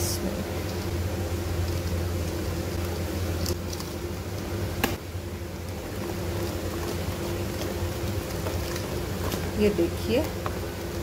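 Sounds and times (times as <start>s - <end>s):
batter mixed in steel bowl: 0.0s - 11.0s
steady low hum: 0.0s - 11.0s.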